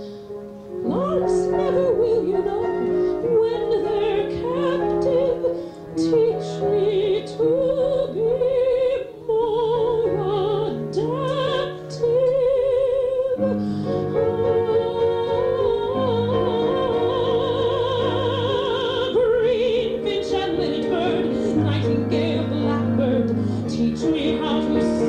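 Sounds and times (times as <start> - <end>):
instrumental accompaniment: 0.0 - 25.0
woman singing operatically: 0.8 - 25.0.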